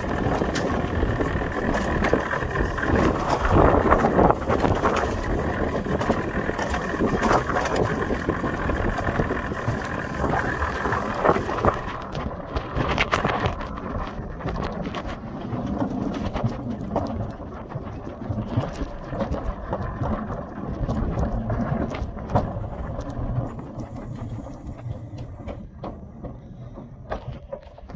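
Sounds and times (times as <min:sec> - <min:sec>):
toboggan wheels rumbling on track: 0:00.0 - 0:27.9.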